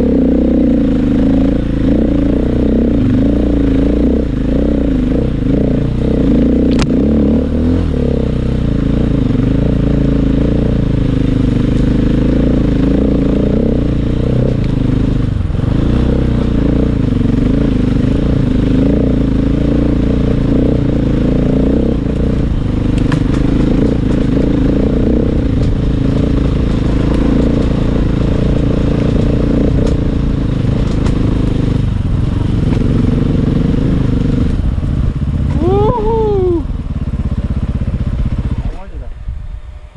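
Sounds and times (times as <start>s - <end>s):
dirt bike engine revving: 0.0s - 39.1s.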